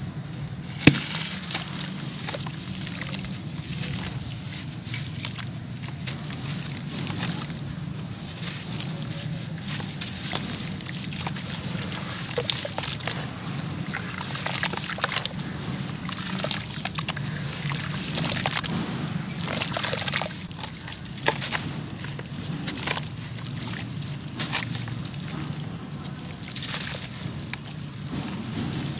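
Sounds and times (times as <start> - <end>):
wet sloshing and dripping: 0.0 - 28.9.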